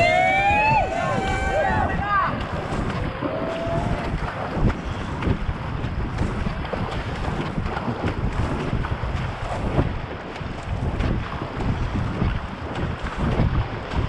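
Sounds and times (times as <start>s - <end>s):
paddle blades splashing water: 0.0s - 14.0s
water rushing along hull: 0.0s - 14.0s
wind rumble on microphone: 0.0s - 14.0s.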